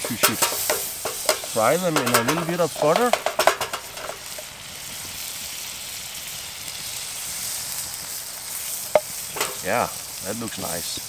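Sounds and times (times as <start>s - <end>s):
bread sizzling in butter: 0.0s - 11.0s.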